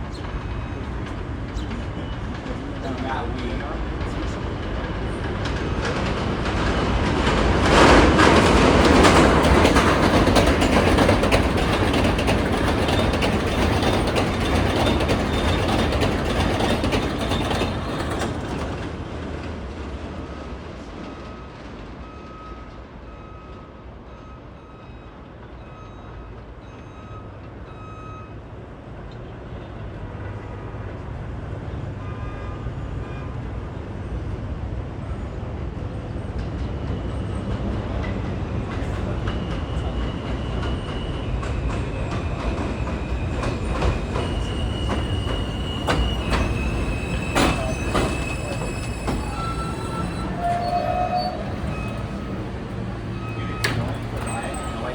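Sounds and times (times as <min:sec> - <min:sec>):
subway train rumbling: 0:00.0 - 0:54.9.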